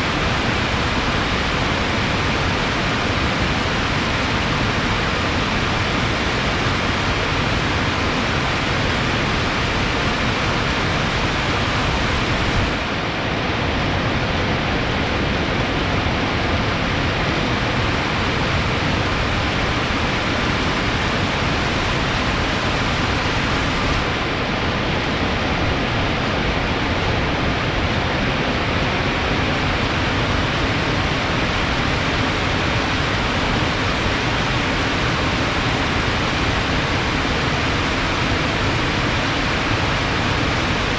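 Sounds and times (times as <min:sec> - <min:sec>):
water rushing: 0:00.0 - 0:13.1, 0:16.9 - 0:27.9, 0:28.9 - 0:40.9.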